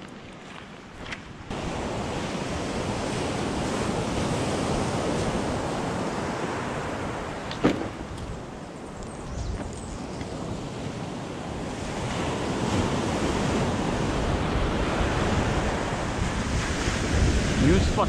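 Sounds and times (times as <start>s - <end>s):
wind buffeting the microphone: 0.0s - 18.0s
surf breaking on a beach: 1.5s - 8.9s, 10.0s - 18.0s.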